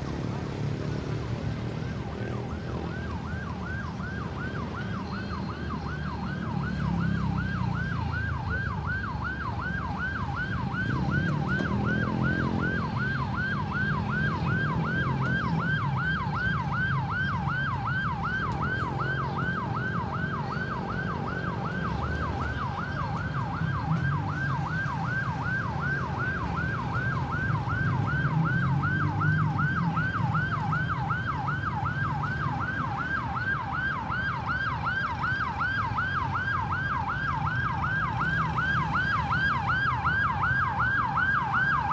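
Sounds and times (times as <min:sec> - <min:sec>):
vehicle engines rumbling: 0:00.0 - 0:41.9
ambulance siren yelping: 0:01.6 - 0:41.9.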